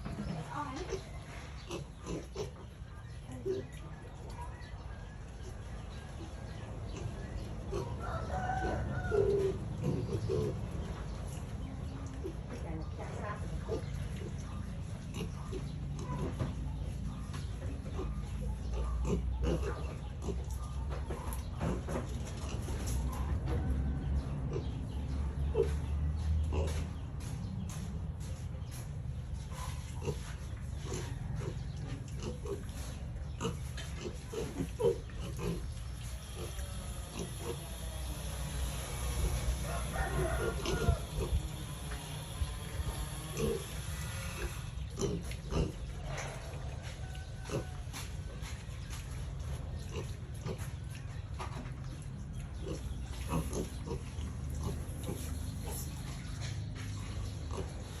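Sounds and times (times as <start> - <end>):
pigs grunting: 0.0 - 4.8, 5.4 - 27.6, 29.4 - 47.8, 49.7 - 51.2, 52.4 - 58.0.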